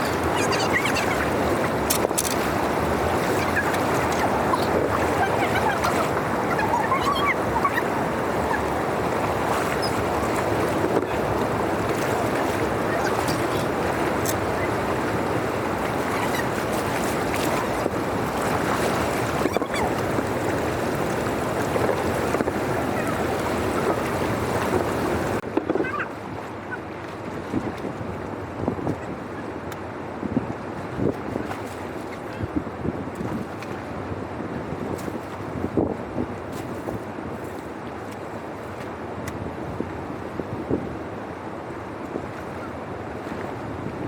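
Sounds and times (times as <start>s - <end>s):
rush of flowing water: 0.0s - 44.0s.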